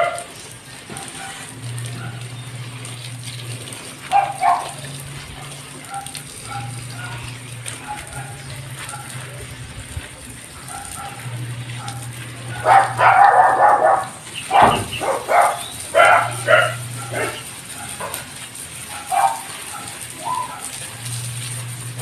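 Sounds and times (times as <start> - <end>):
dog barking and yipping: 0.0 - 2.4, 4.0 - 9.4, 10.5 - 20.9.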